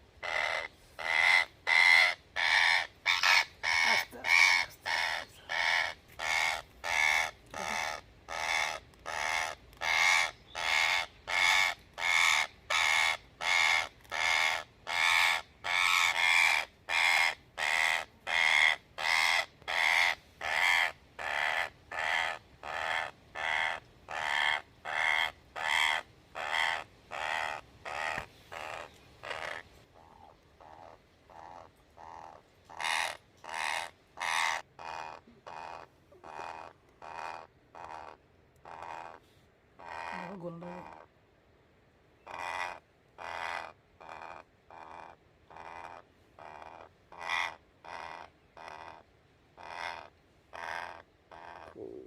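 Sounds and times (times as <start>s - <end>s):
parrot screeching in distress: 0.2s - 29.6s, 30.7s - 39.2s, 39.8s - 41.0s, 42.3s - 49.0s, 49.6s - 51.8s.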